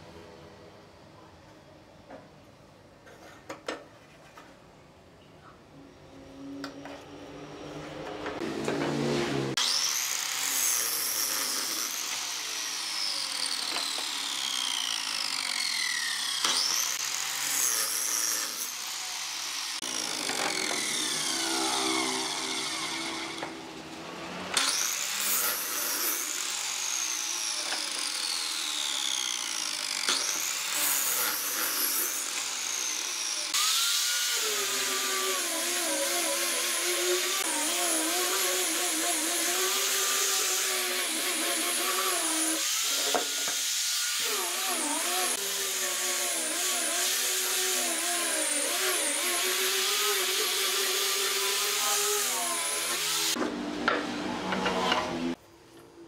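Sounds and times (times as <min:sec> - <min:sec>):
miter saw cutting wood: 0:06.4 - 0:55.4
power sander sanding wood: 0:07.0 - 0:55.4.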